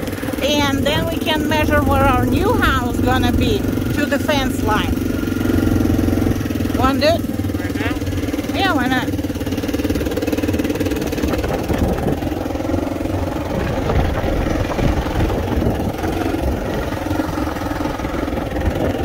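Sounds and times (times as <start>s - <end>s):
small vehicle engine running: 0.0s - 19.0s.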